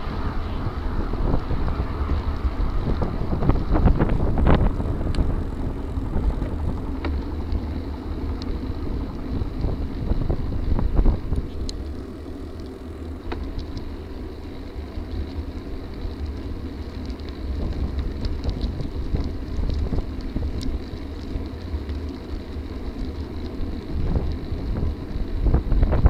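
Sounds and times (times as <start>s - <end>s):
bike tyres rolling on trail: 0.0s - 26.0s
wind buffeting microphone: 0.0s - 26.0s
small clicks and rattles: 1.3s - 26.0s.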